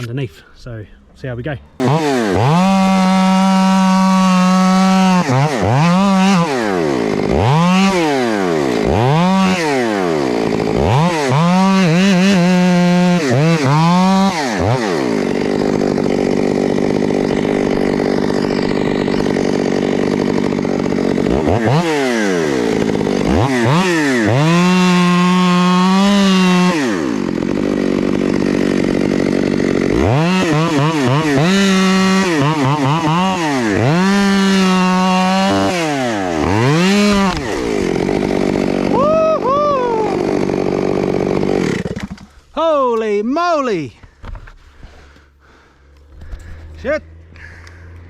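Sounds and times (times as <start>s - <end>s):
chainsaw cutting wood: 1.7s - 43.0s, 44.0s - 48.0s.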